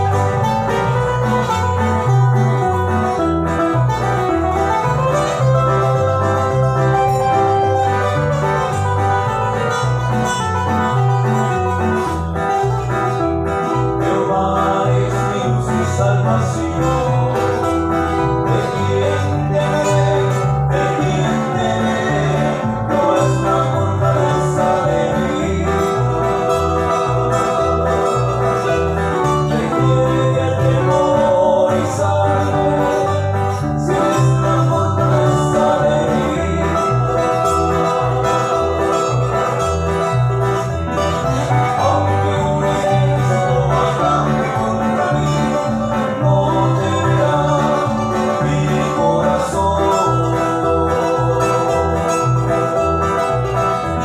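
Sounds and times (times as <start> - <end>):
acoustic guitars playing: 0.0 - 54.0
electric bass line: 0.0 - 54.0.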